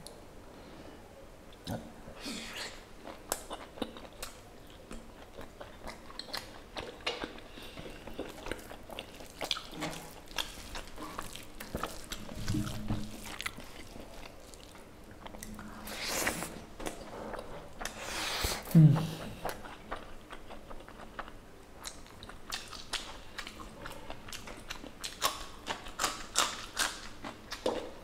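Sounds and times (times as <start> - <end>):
person chewing with wet smacks: 2.5 - 28.0.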